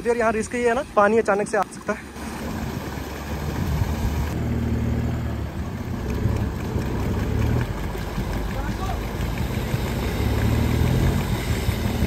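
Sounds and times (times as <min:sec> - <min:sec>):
engine running at low revs: 0:02.1 - 0:12.0.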